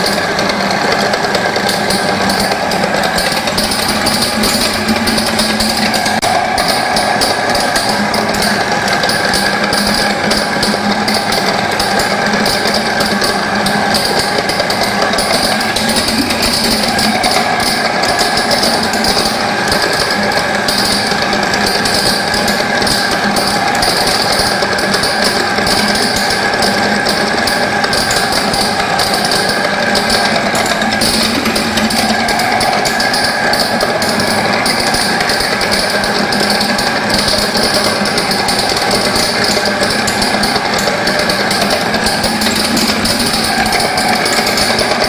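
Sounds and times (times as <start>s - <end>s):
grinding machine running: 0.0s - 45.0s.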